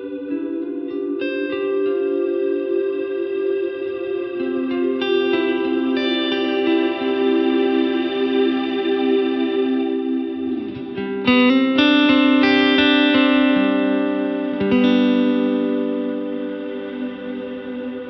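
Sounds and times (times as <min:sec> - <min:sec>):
electric guitar chords with reverb: 0:00.0 - 0:18.0.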